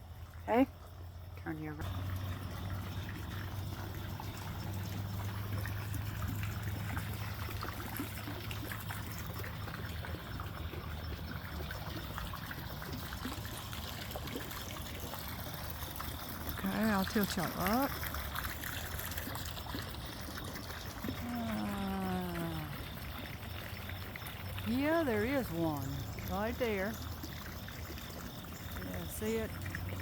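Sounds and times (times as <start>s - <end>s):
trickling running water: 0.0s - 30.0s.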